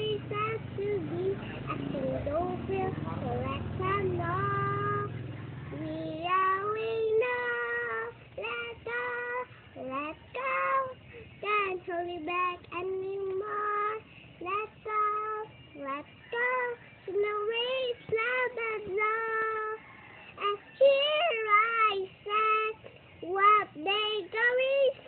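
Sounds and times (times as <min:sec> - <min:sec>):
girl singing unaccompanied: 0:00.0 - 0:25.0.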